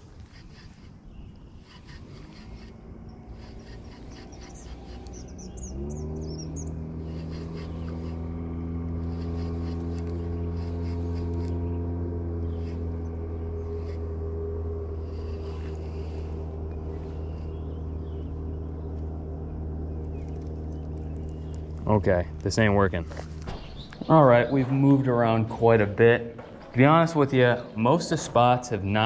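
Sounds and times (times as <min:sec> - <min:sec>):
bird chirping: 0:00.0 - 0:29.0
motor running: 0:00.0 - 0:29.0.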